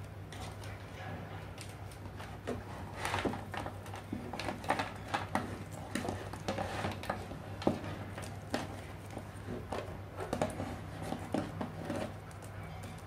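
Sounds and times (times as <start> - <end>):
cables rustling and clicking: 0.0 - 13.0.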